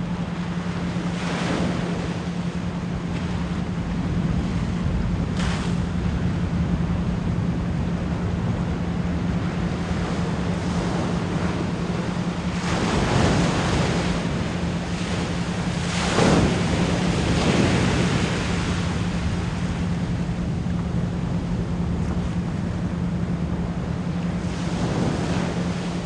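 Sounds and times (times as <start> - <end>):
ocean waves washing in: 0.0 - 26.0
steady low pure tone: 0.0 - 26.0.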